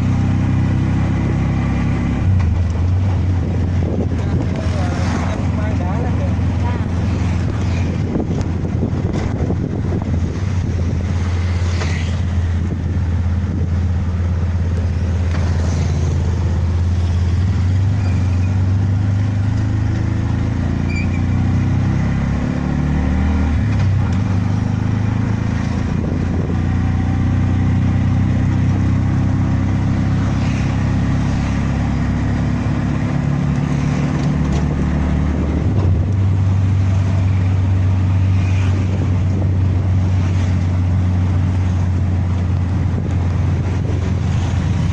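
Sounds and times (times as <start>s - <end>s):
vehicle engine running: 0.0s - 22.0s, 22.7s - 44.9s.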